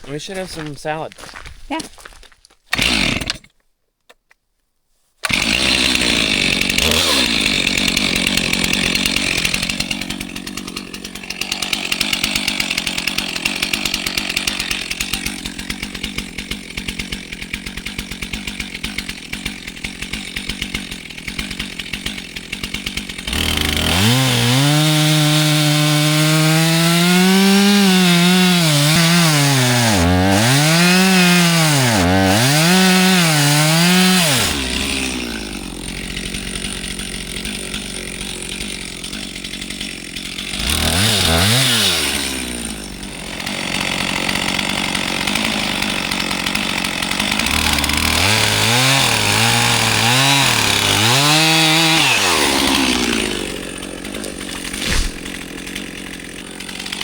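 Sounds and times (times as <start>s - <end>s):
chainsaw cutting a tree: 2.7s - 3.5s, 5.2s - 57.0s.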